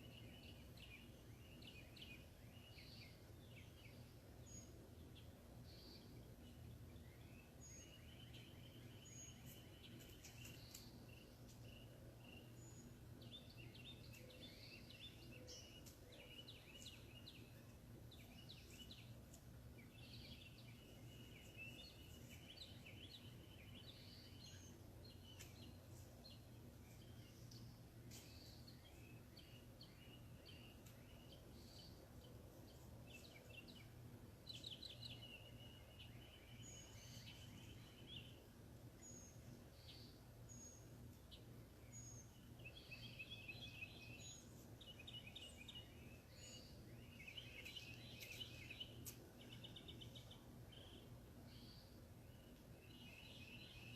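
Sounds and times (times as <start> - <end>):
birds chirping and trilling: 0.0 - 53.9
low steady hum: 0.0 - 53.9.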